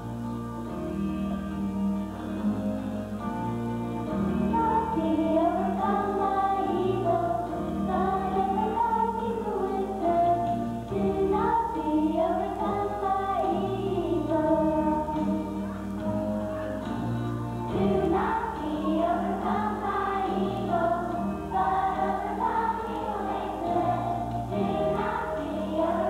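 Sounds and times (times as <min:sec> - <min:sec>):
instrumental accompaniment: 0:00.0 - 0:26.0
children's choir singing: 0:04.1 - 0:26.0.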